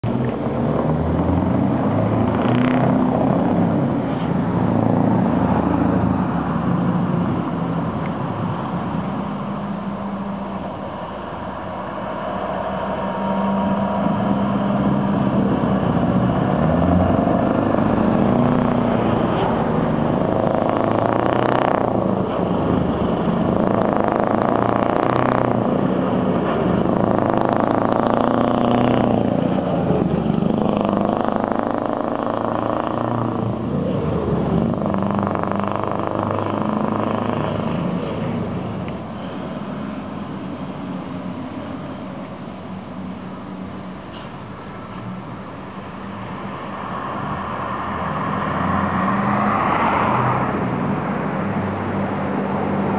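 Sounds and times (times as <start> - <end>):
truck diesel engine accelerating: 0.0 - 52.9.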